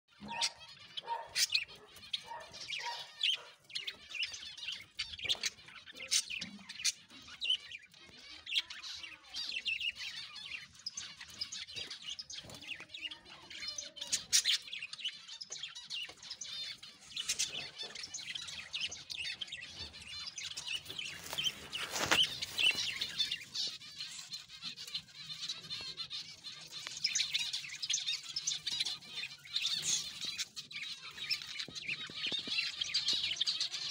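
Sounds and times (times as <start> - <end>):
finches chirping: 0.1 - 33.9.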